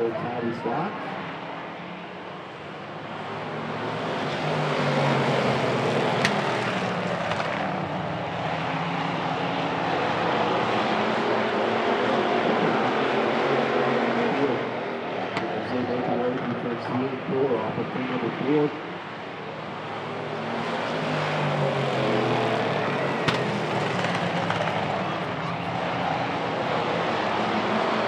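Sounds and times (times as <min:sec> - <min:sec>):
race car engines at full throttle: 0:00.0 - 0:28.0.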